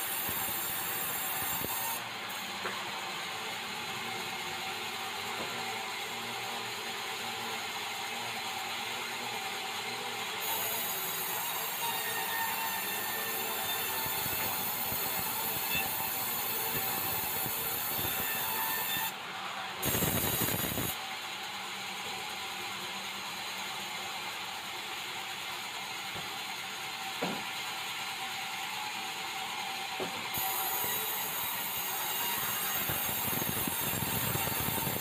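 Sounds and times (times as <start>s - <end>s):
band saw whining: 0.0s - 35.0s.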